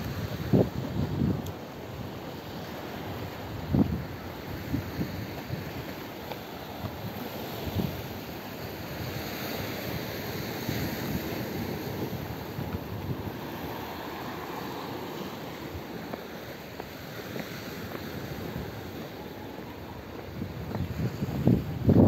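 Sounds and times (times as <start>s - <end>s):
waves breaking on rocks: 0.0s - 22.0s
wind buffeting microphone: 0.0s - 22.0s.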